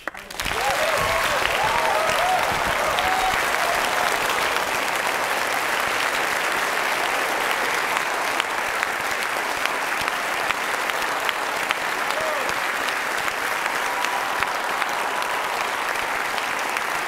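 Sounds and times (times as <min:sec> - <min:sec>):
large audience applauding: 0:00.0 - 0:17.0.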